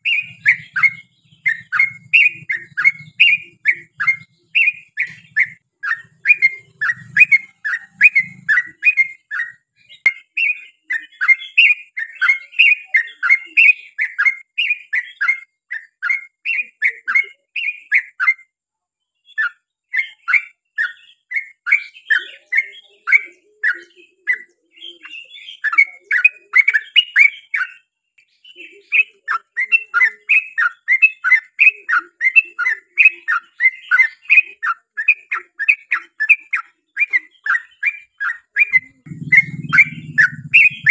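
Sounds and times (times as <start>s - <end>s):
bulbul chirping song: 0.0s - 18.5s, 19.2s - 40.9s.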